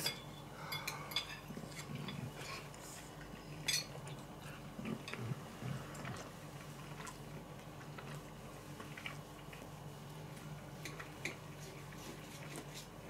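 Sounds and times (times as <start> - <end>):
low steady hum: 0.0 - 13.0
faint close chewing: 0.8 - 13.0.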